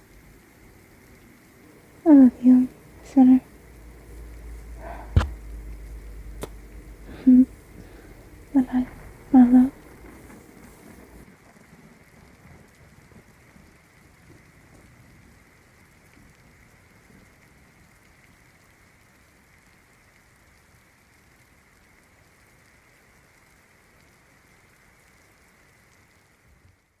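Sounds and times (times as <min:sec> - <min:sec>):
rain hissing: 0:00.0 - 0:27.0.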